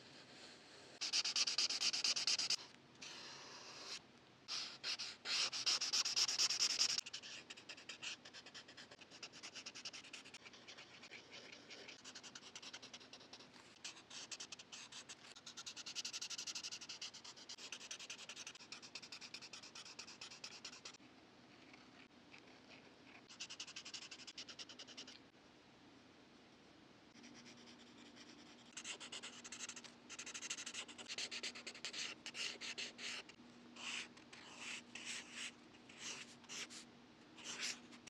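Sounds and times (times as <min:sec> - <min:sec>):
marker scratching on paper: 0:01.0 - 0:21.0, 0:27.2 - 0:38.0.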